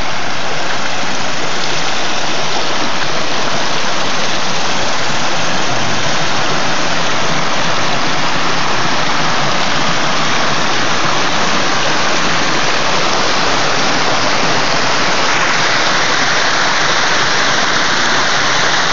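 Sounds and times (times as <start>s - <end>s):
creek water rushing and splashing: 0.0s - 18.9s.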